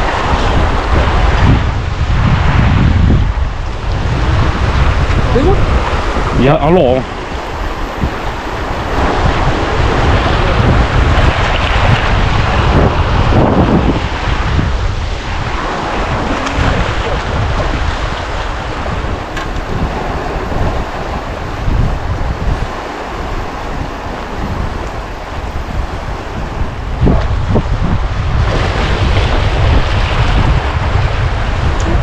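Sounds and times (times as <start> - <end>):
sea water rushing: 0.0 - 32.0
wind buffeting microphone: 0.0 - 32.0.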